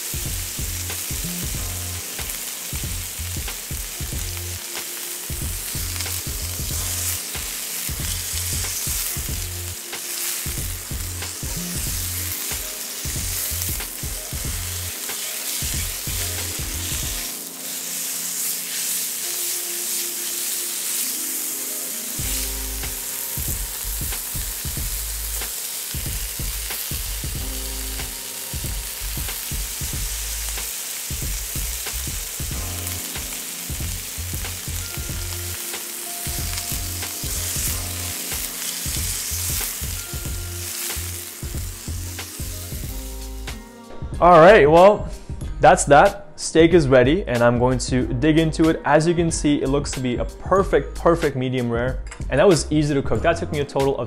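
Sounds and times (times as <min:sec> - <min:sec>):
steak sizzling in a pan: 0:00.0 - 0:43.6
vegetables frying in a pan: 0:00.0 - 0:43.6.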